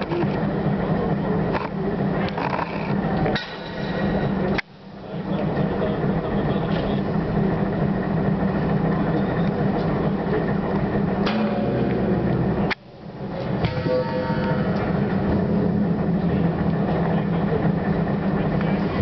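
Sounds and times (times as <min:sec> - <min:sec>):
low machinery drone: 0:00.0 - 0:19.0.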